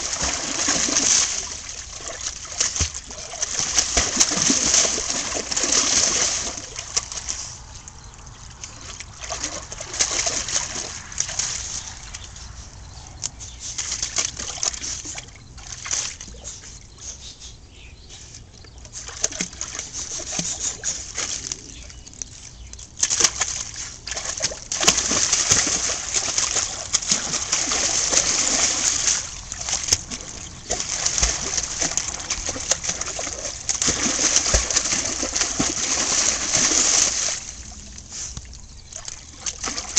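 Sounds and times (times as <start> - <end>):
dog splashing in water: 0.0 - 7.6, 8.5 - 12.3, 13.8 - 16.3, 19.0 - 22.0, 23.0 - 38.2, 38.9 - 39.9.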